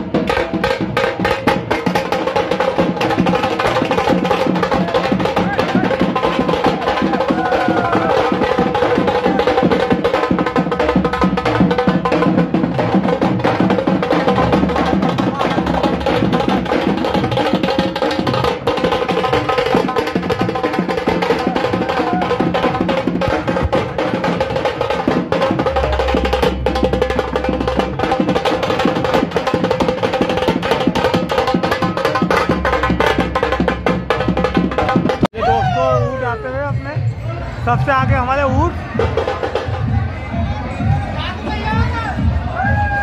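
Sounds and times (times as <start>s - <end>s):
drums beaten fast: 0.0s - 43.0s
pitched music: 0.0s - 43.0s.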